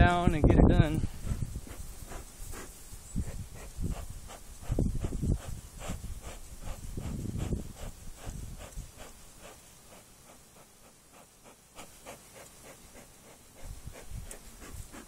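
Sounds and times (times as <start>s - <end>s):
bellows puffs of air: 0.9s - 15.0s.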